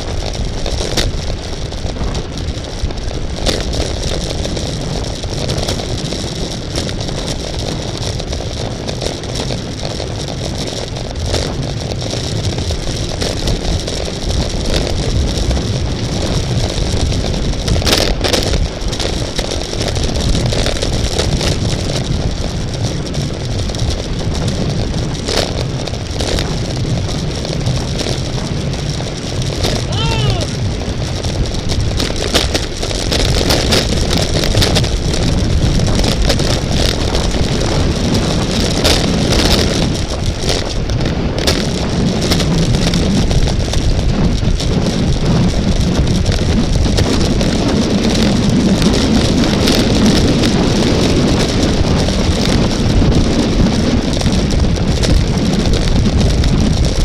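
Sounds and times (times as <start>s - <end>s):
bicycle road rumble: 0.0s - 57.0s
wind on microphone: 0.0s - 57.0s.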